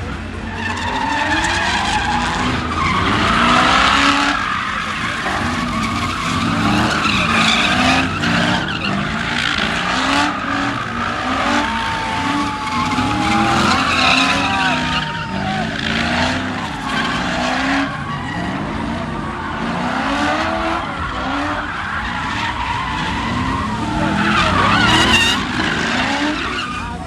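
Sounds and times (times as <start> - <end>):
car engine revving: 0.0 - 27.0
tyres screeching: 0.0 - 27.0.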